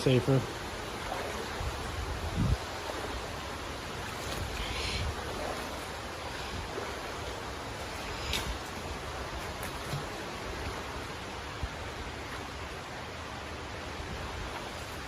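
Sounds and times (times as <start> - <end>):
creek water flowing: 0.0 - 15.0.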